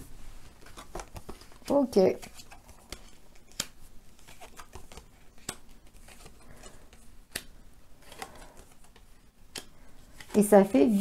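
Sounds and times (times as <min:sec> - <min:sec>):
cards rustling and slapping: 0:00.5 - 0:11.0.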